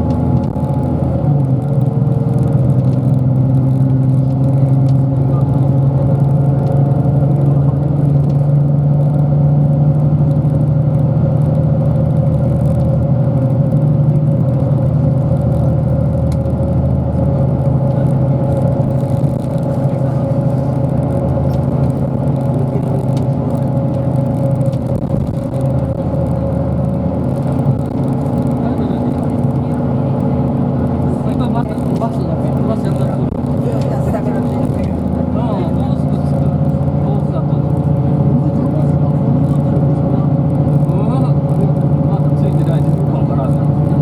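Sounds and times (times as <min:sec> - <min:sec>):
bus engine hum: 0:00.0 - 0:44.0
road noise: 0:00.0 - 0:44.0.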